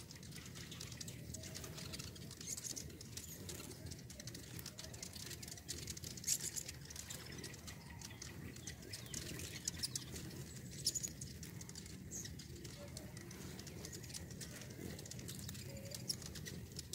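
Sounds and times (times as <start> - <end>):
hummingbirds chipping and twittering: 0.0 - 16.9
low wing hum: 0.0 - 16.9.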